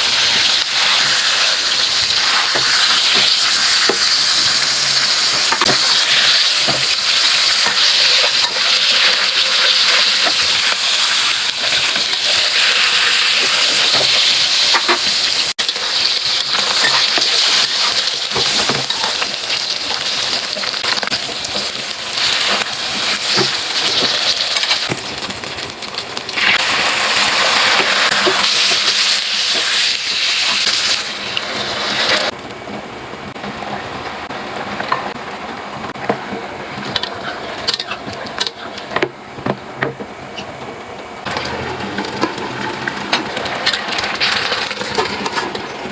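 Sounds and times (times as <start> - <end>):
food sizzling in hot oil: 0.0 - 32.4, 41.2 - 45.9.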